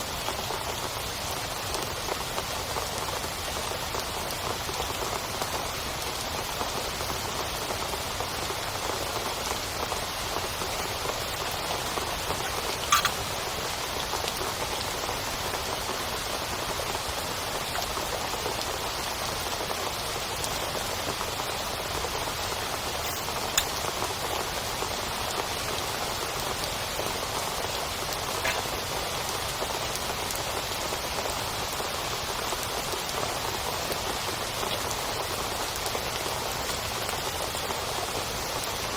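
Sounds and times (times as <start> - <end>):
heavy rain on a tent: 0.0 - 38.9.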